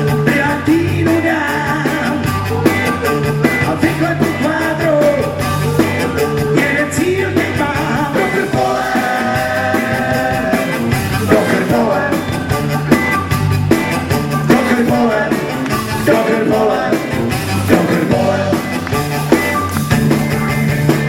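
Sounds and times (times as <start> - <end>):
drums and bass beat: 0.0 - 21.0
lead guitar lines: 0.0 - 21.0
rock band playing live: 0.0 - 21.0.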